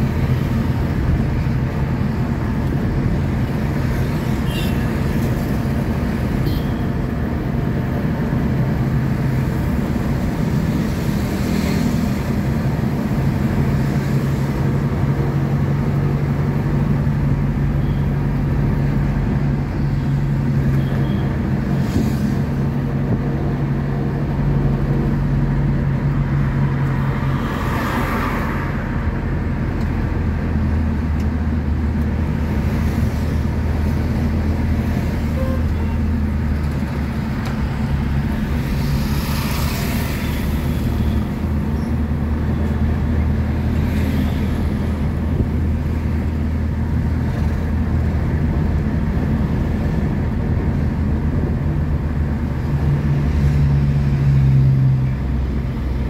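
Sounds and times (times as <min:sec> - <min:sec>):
bus engine drone: 0:00.0 - 0:56.0
tyres and traffic rushing: 0:00.0 - 0:56.0.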